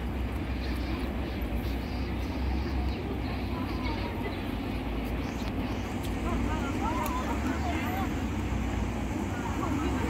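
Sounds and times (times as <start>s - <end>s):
low street rumble: 0.0s - 10.0s.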